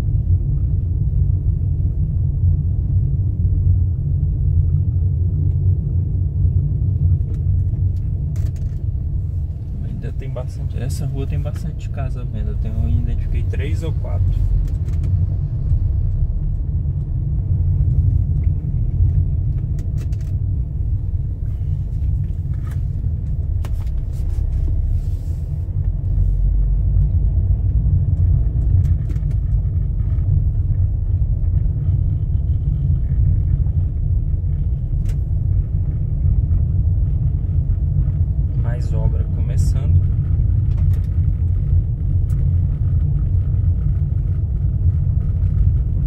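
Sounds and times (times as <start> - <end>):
car driving slowly: 0.0 - 46.0.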